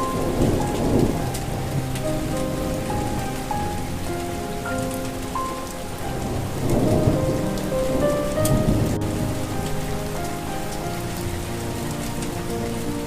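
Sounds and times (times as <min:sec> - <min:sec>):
thunder rumble: 0:00.0 - 0:12.8
slow melody of held notes: 0:00.0 - 0:13.0
steady rain: 0:00.0 - 0:13.0.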